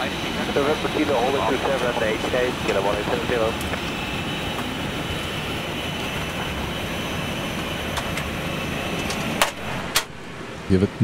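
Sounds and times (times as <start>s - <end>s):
faint high whine: 0.0s - 11.0s
ventilation fans hissing: 0.0s - 11.0s.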